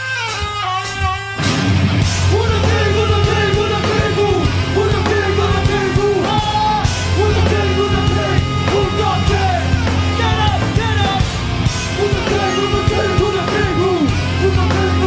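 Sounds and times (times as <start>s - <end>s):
rock band playing live: 0.0s - 15.0s
shouted vocal: 2.4s - 15.0s.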